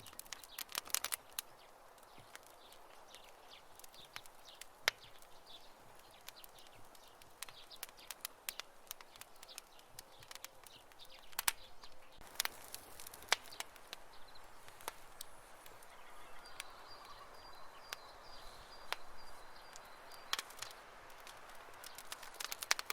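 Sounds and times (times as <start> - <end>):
campfire crackling and popping: 0.0 - 22.9.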